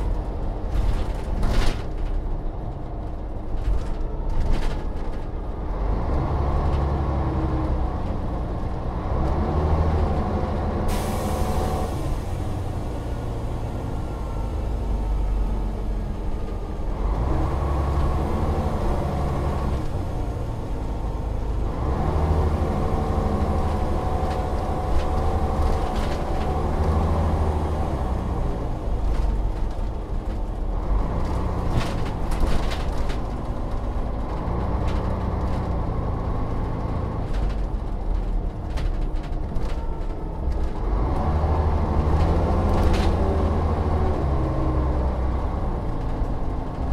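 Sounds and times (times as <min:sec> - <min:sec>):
bus diesel engine: 0:00.0 - 0:46.9.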